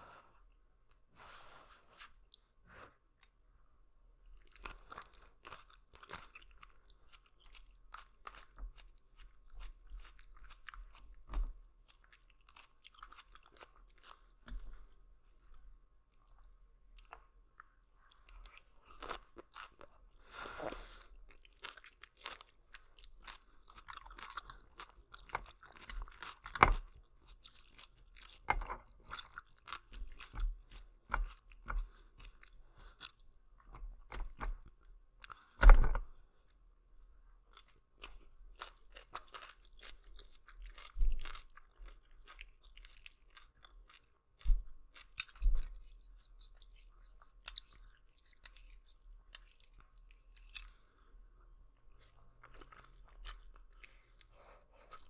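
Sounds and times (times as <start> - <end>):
chewing noodles: 4.3 - 15.0, 16.2 - 35.6, 37.4 - 55.0.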